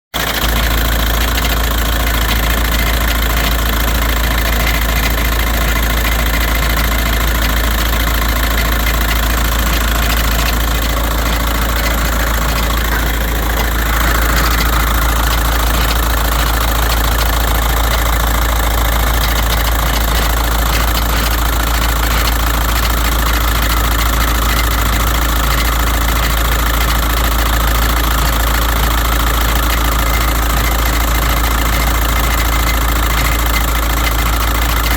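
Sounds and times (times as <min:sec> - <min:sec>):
diesel engine running: 0:00.2 - 0:34.9
metallic popping clunking rattle: 0:00.4 - 0:34.9.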